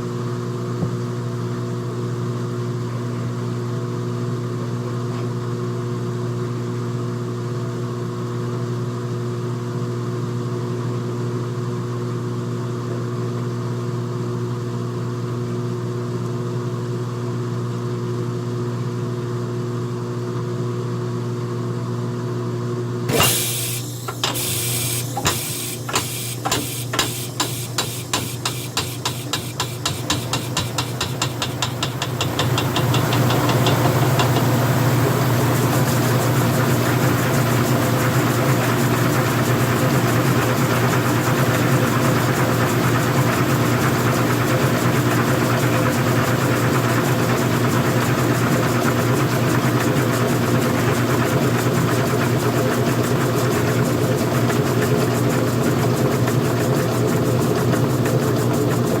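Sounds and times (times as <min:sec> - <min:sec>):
washing machine spinning up: 0:00.0 - 0:59.0.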